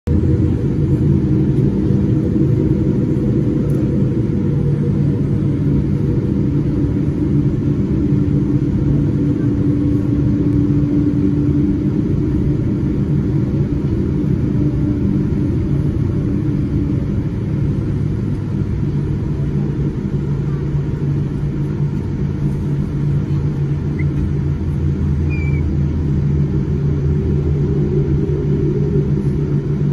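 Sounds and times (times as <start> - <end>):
jet cabin rumble and hum: 0.0 - 29.9.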